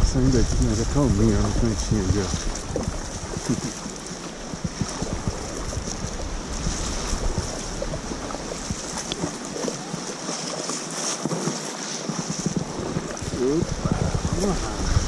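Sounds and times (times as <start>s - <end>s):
wind rumbling on microphone: 0.0s - 10.4s, 11.2s - 15.0s
paddle strokes splashing: 0.0s - 15.0s
water lapping against hull: 0.0s - 15.0s.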